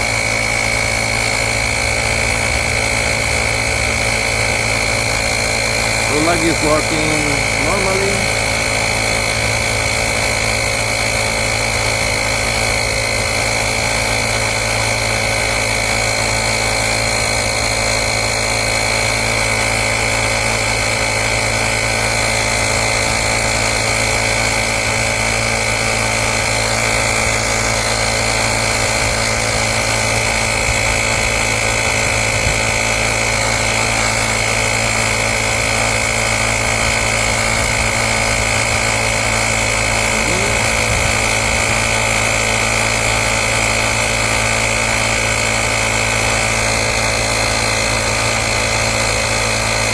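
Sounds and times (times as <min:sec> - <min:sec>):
air compressor droning: 0:00.0 - 0:49.9.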